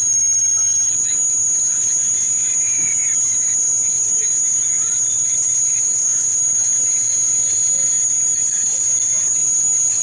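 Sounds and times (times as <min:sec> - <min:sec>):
high-pitched continuous whine: 0:00.0 - 0:10.0.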